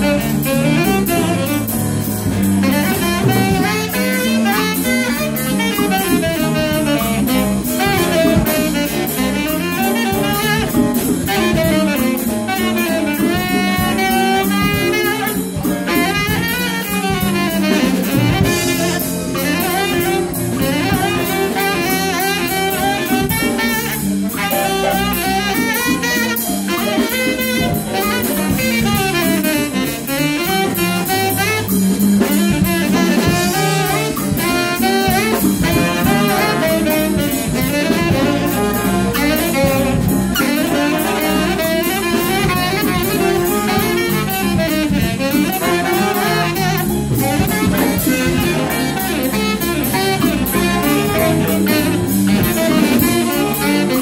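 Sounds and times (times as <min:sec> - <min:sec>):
drum kit: 0:00.0 - 0:54.0
electric bass: 0:00.0 - 0:54.0
tenor saxophone soloing: 0:00.0 - 0:54.0.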